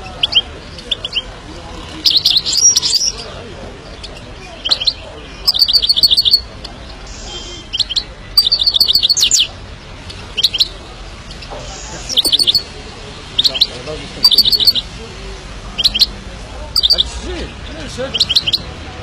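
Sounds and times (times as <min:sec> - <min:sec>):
bird twittering: 0:00.0 - 0:14.9, 0:15.7 - 0:18.8.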